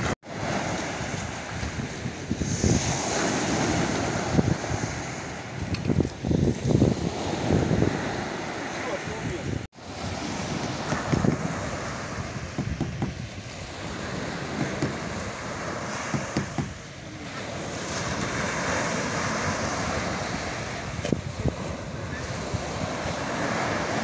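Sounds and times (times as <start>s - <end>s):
small waves breaking on beach: 0.0s - 24.0s
wind buffeting microphone: 0.0s - 24.0s.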